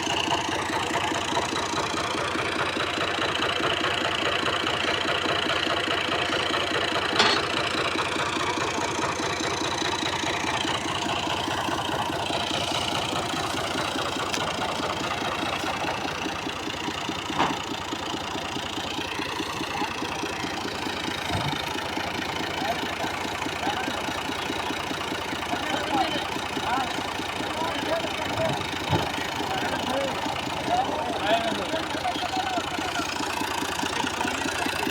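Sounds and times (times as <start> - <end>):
tractor engine idling: 0.0 - 34.9.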